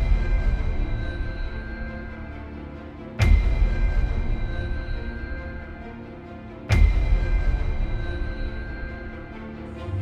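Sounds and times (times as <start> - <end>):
sustained low music notes: 0.0 - 10.0.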